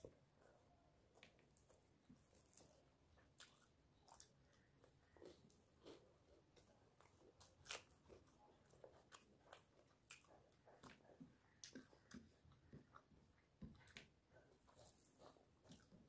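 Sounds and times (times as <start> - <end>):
faint chewing of soft food: 0.0 - 16.0.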